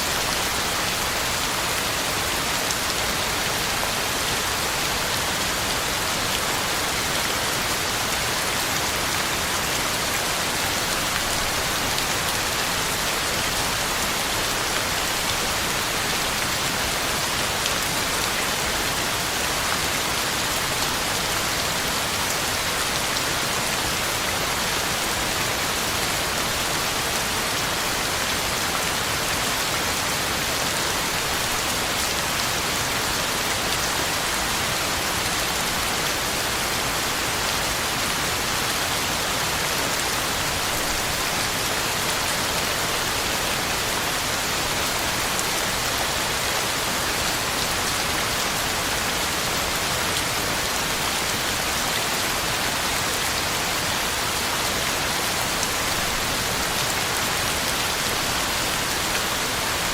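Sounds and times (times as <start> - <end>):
heavy rain on ground and leaves: 0.0 - 59.9.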